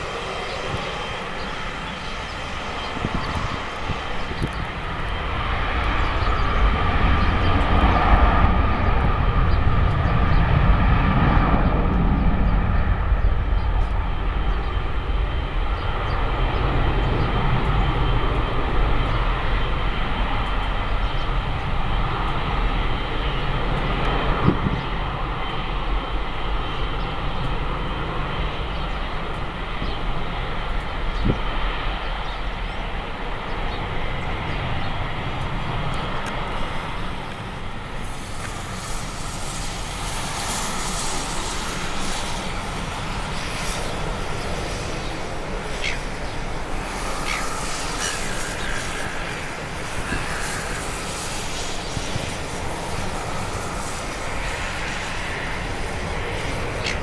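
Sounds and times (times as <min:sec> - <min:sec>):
jet engine drone: 0:00.0 - 0:57.0.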